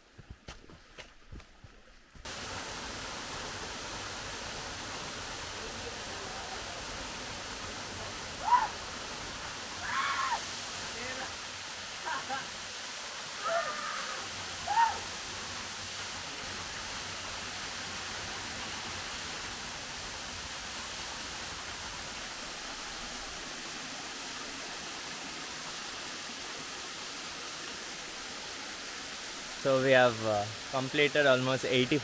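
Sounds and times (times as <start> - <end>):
waterfall rushing: 2.3 - 32.0.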